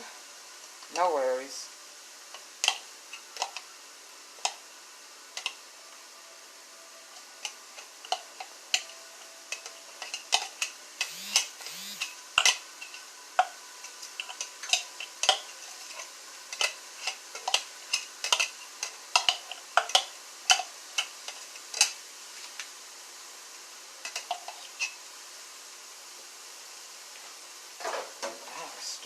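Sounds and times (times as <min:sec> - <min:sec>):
faint sizzle: 0:00.0 - 0:29.0.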